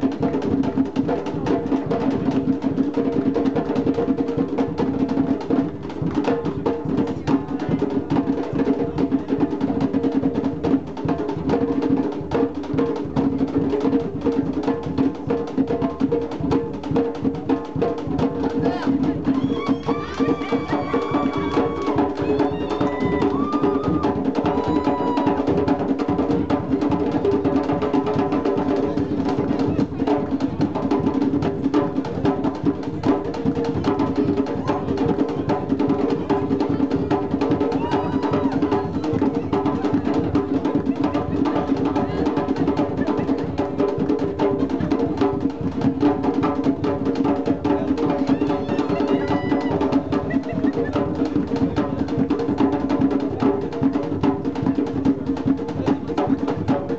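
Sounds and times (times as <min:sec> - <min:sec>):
bass hand drum rhythm: 0:00.0 - 0:56.9
fast lead hand drums: 0:00.0 - 0:56.9.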